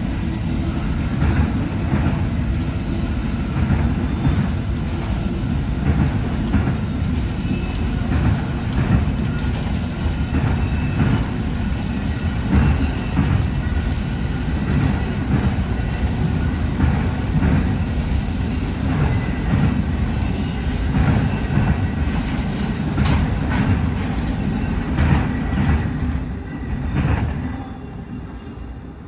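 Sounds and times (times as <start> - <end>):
rumble of train wheels on rail: 0.0 - 29.0.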